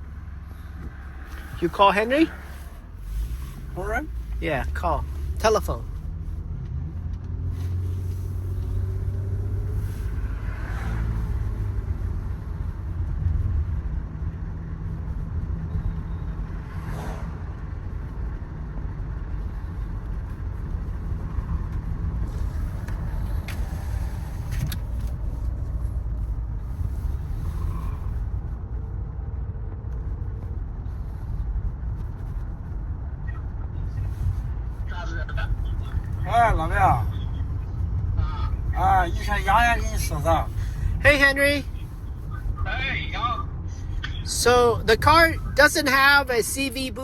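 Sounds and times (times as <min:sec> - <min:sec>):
car engine and road rumble: 0:00.0 - 0:47.0.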